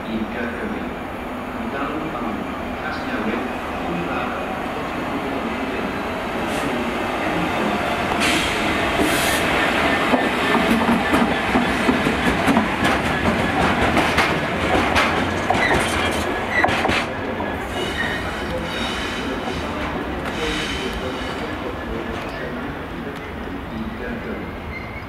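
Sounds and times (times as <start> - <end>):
diesel locomotive engine passing: 0.0 - 25.0.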